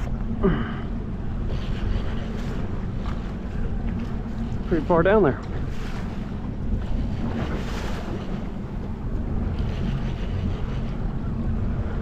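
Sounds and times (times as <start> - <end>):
steady rumble: 0.0 - 12.0
waves washing against boat hull: 0.0 - 12.0
wind buffeting microphone: 0.0 - 12.0.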